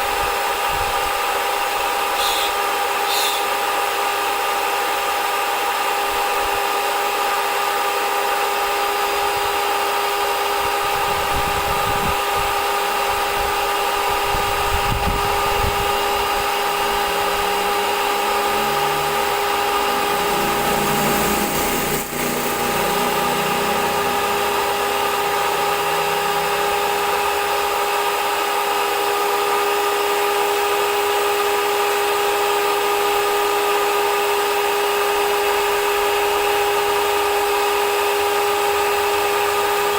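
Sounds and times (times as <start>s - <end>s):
small electric motor running: 0.0s - 39.9s.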